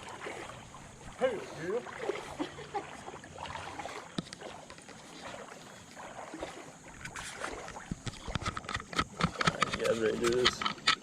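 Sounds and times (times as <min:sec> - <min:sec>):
creek water splashing: 0:00.0 - 0:11.0.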